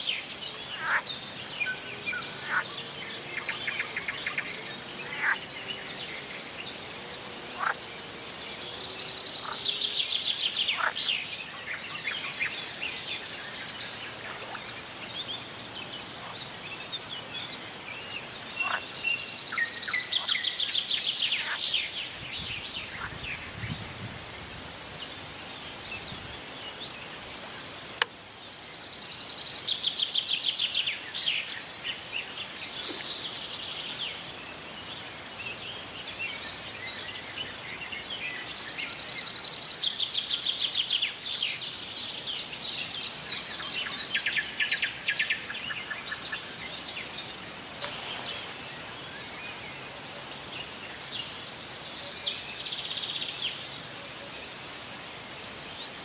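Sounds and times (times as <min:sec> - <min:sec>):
songbirds singing: 0:00.0 - 0:56.0
steady outdoor hiss: 0:00.0 - 0:56.0.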